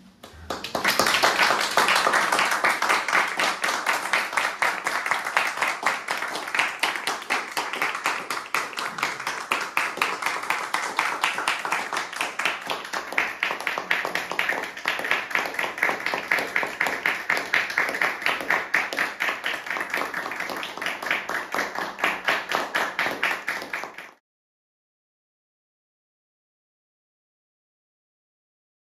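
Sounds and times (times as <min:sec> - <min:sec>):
audience applauding: 0:00.0 - 0:24.2.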